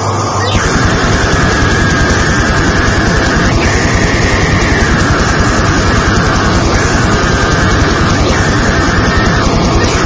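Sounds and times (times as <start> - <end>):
distorted noise music: 0.0 - 10.0
high feedback whine: 0.0 - 10.0
pulsing low end: 0.0 - 10.0.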